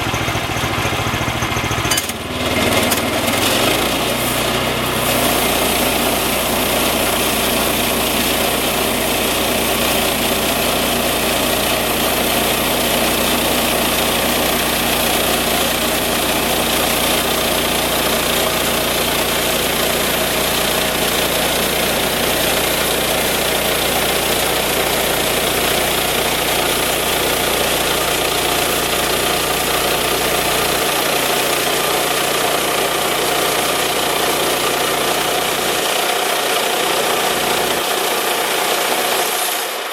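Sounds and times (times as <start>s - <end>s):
sawmill engine running: 0.0s - 39.9s
band blade sawing wood: 2.1s - 39.9s.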